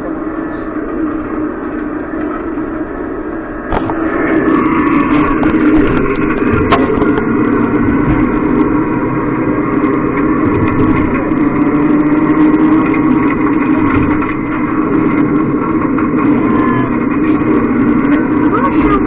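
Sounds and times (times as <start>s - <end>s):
engine drone from speaker: 0.0s - 19.0s.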